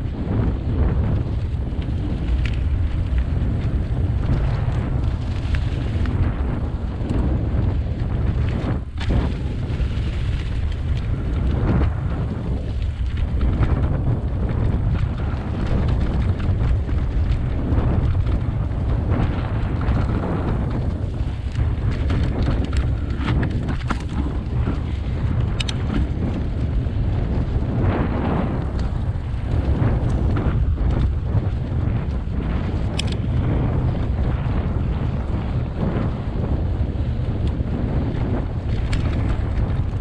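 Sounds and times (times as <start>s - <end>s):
bike clicks and rattles: 0.0s - 40.0s
bike tyres rolling on dirt and leaves: 0.0s - 40.0s
wind buffeting microphone: 0.0s - 40.0s.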